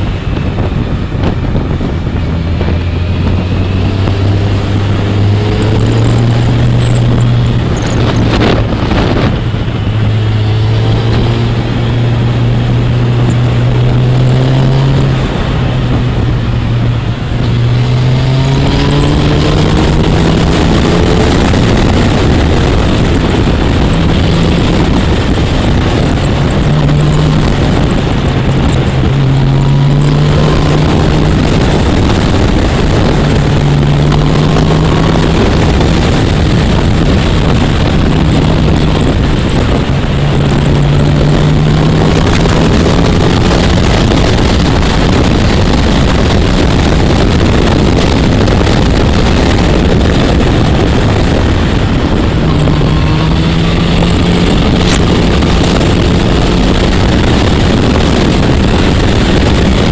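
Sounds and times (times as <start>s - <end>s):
motorcycle engine accelerating: 0.0s - 59.9s
wind rushing: 0.0s - 59.9s.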